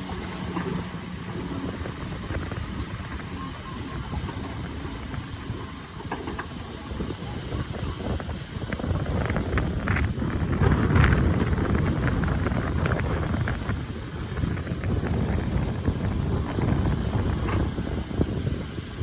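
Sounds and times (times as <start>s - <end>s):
heavy machinery rumbling: 0.0s - 19.0s
wind buffeting microphone: 0.0s - 19.0s.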